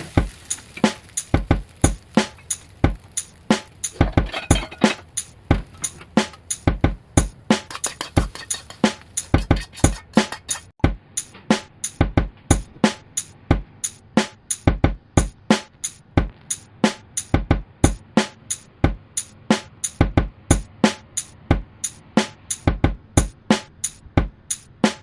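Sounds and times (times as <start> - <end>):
drum machine beat: 0.0 - 25.0.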